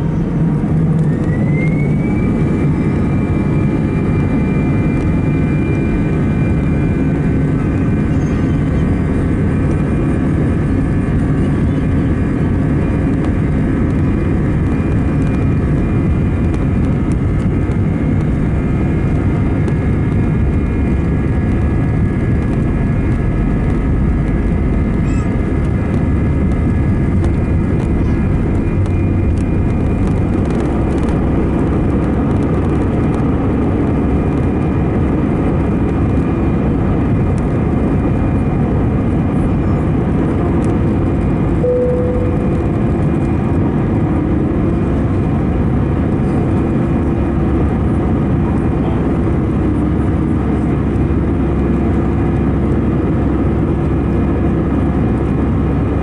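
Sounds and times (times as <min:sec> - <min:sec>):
jet engines spooling up: 0:00.0 - 0:11.4, 0:12.1 - 0:48.4.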